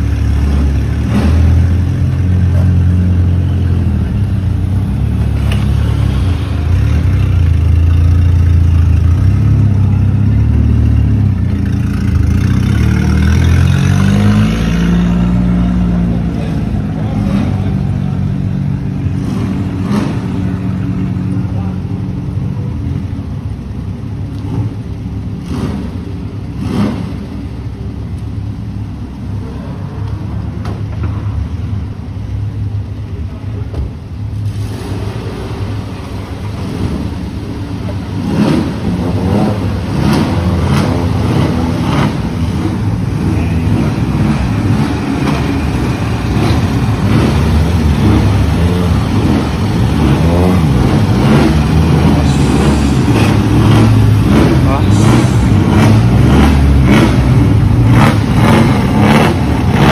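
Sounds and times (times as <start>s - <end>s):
car engines running and revving: 0.0s - 59.9s.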